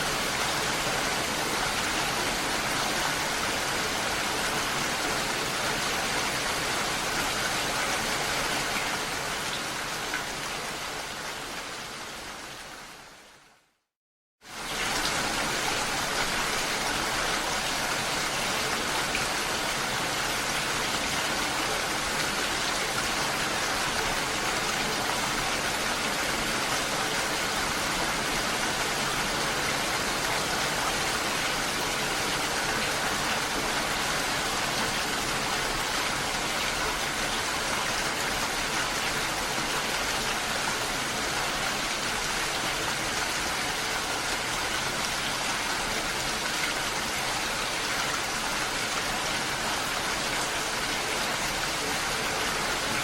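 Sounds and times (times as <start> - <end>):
rushing water: 0.0 - 13.7, 14.4 - 53.0.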